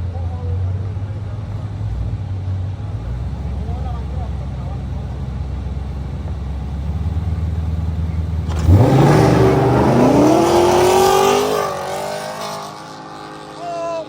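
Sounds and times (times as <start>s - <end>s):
muscle car engines accelerating: 0.0s - 14.0s.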